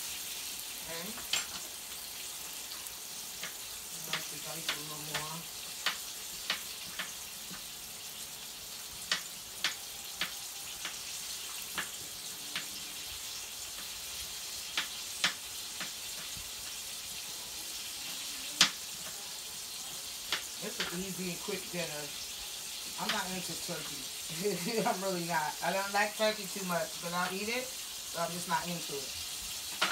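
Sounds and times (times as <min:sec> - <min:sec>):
meat sizzling in skillet: 0:00.0 - 0:29.9.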